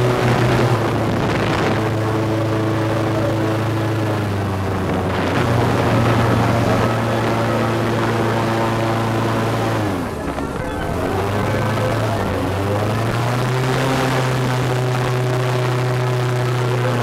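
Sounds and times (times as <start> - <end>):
airboat engine droning: 0.0 - 17.0.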